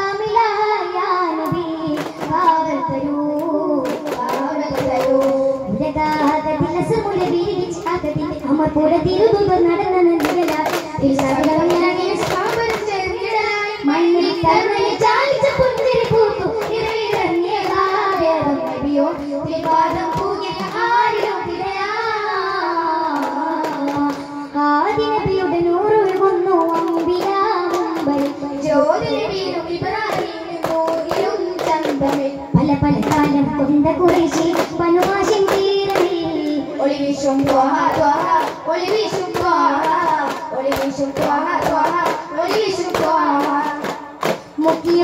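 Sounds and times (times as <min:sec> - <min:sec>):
young voices singing together: 0:00.0 - 0:45.0.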